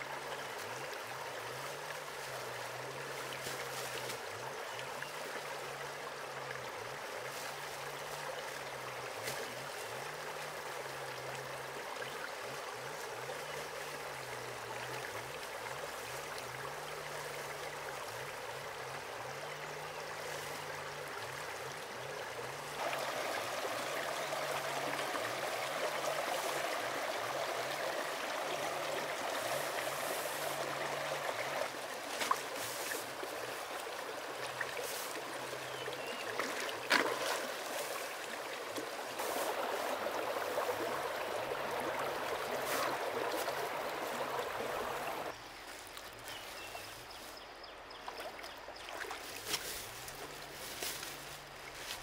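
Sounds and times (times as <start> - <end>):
stream water running over rocks: 0.0 - 52.0.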